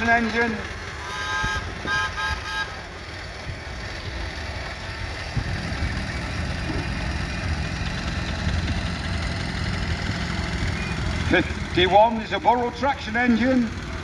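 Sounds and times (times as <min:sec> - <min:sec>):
steam engine rumble: 0:00.0 - 0:14.0.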